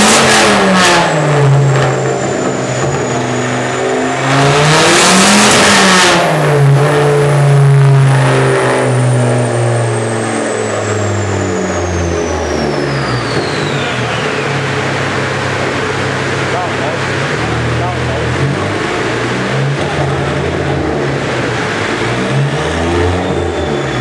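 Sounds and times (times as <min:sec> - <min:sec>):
high whine falling in pitch: 0:00.0 - 0:24.0
loud car exhaust at full throttle: 0:00.0 - 0:24.0.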